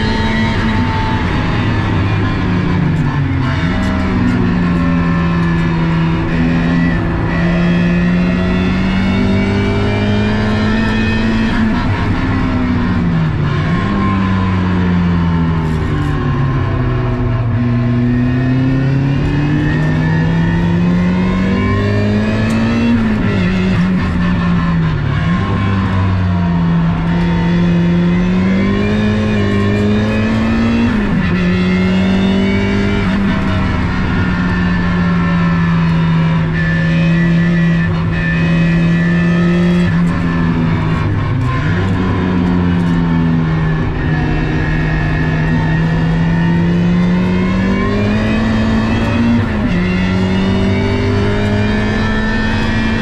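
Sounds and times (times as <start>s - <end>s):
turbocharged car engine under load: 0.0s - 53.0s.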